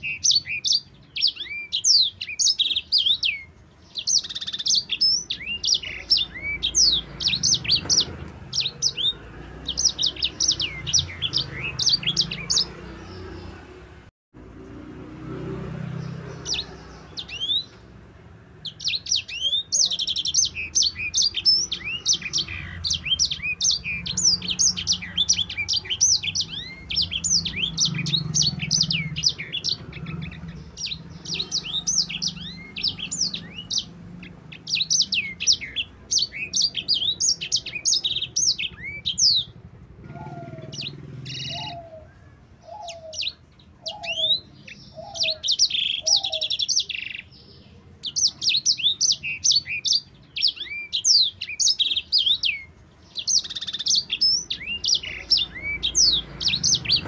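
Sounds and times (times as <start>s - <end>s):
finch singing chirps and trills: 0.0s - 13.9s, 15.6s - 57.0s.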